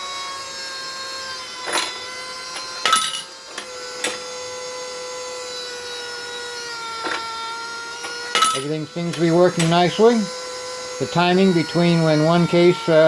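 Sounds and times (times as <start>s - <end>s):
motor whine: 0.0s - 13.0s.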